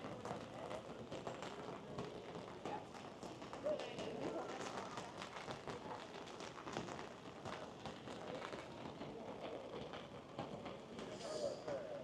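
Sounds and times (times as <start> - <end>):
rain falling on pavement: 0.0 - 11.1.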